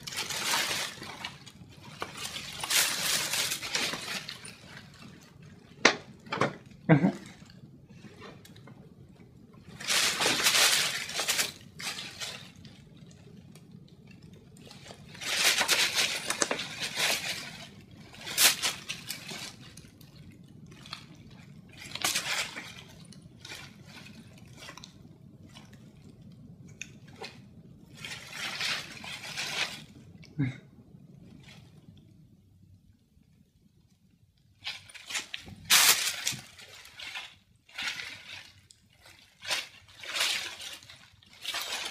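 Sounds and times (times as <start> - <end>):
paper and foil crinkling: 0.0 - 30.5, 34.5 - 41.9.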